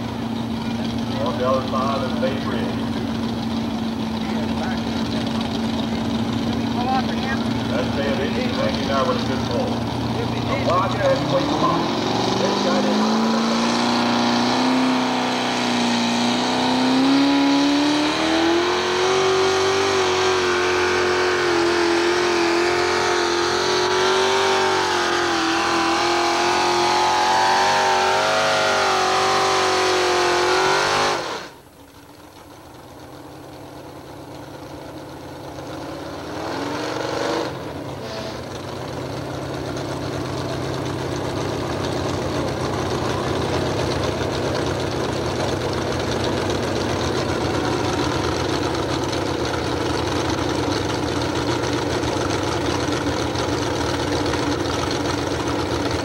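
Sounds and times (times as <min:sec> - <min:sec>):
tractor engine revving high: 0:00.0 - 0:31.7, 0:33.3 - 0:56.0
engine idling: 0:00.0 - 0:36.5, 0:37.5 - 0:56.0.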